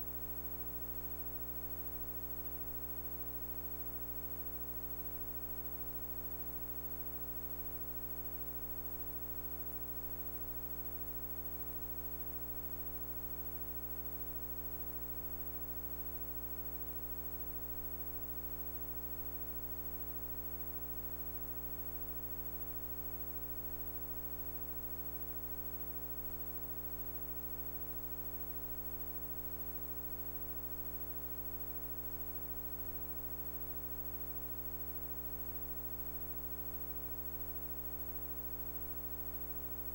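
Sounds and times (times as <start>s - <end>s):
faint tape hiss: 0.0s - 39.9s
low electrical hum: 0.0s - 39.9s.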